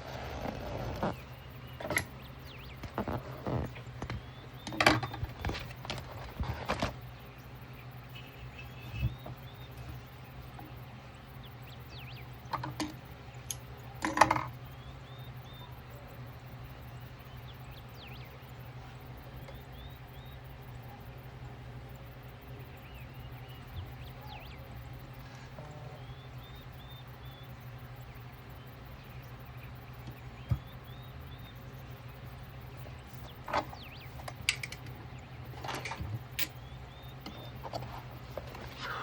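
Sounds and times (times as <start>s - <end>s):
faint birdsong: 0.0s - 39.0s
steady low hum: 0.0s - 39.0s.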